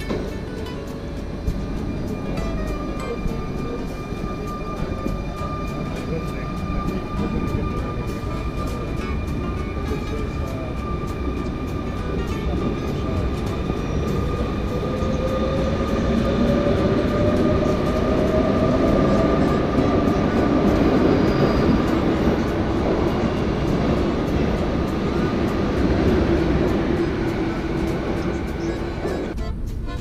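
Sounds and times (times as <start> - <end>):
train rumble with whine: 0.0 - 30.0.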